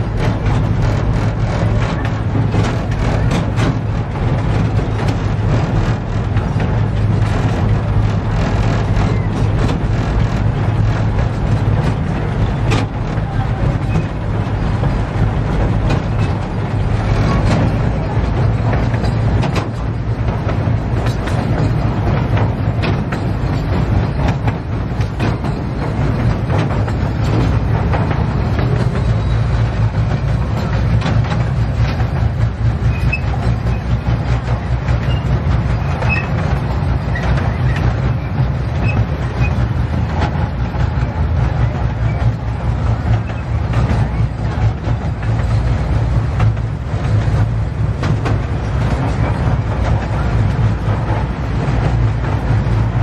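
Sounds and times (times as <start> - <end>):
miniature train low drone: 0.0 - 53.0
wheels clicking over rails: 0.0 - 53.0.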